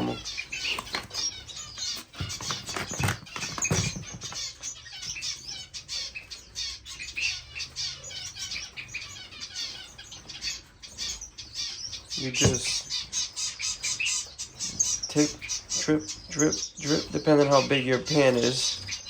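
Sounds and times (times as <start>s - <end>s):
finches chirping and twittering: 0.0s - 19.0s.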